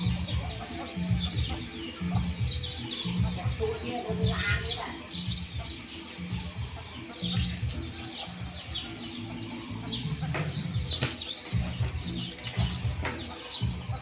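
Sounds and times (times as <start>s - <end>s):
music with pulsing bass: 0.0s - 14.0s
small birds chirping: 0.0s - 14.0s.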